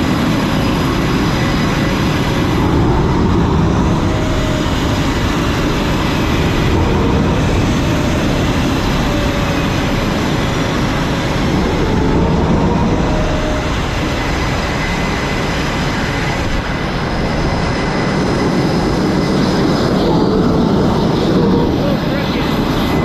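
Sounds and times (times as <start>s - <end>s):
high engine whine: 0.0s - 23.0s
jet engines roaring: 0.0s - 23.0s.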